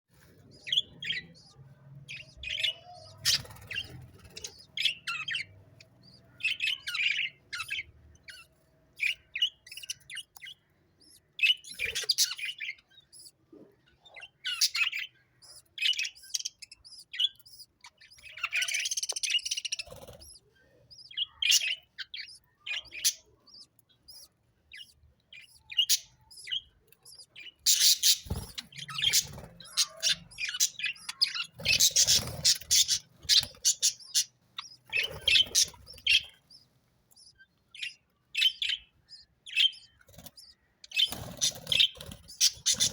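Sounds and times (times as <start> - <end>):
sparrows chirping: 0.1 - 42.9.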